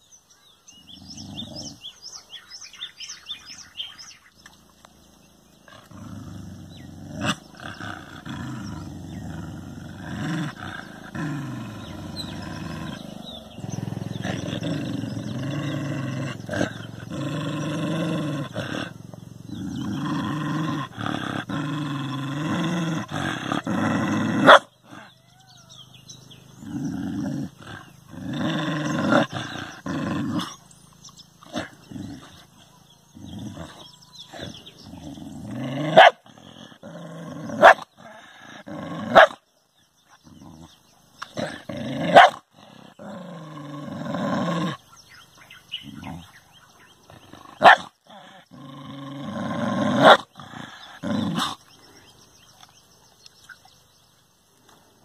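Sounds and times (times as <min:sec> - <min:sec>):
dog growling: 0:00.8 - 0:02.0, 0:03.3 - 0:52.7.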